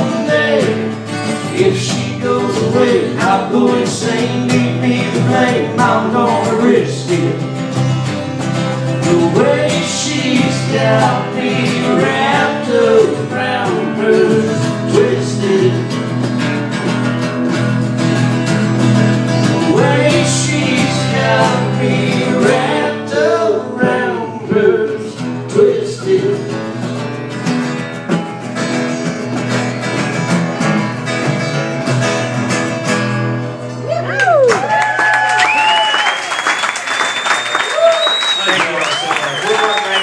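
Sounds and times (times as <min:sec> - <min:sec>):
live country music with guitars: 0:00.0 - 0:40.0.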